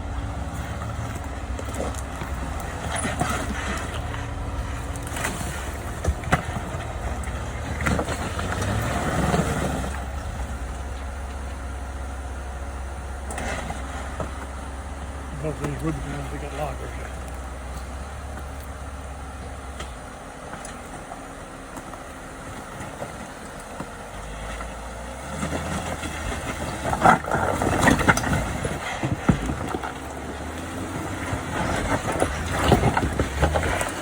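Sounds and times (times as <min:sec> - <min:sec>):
off-road vehicle engine: 0:00.0 - 0:34.0.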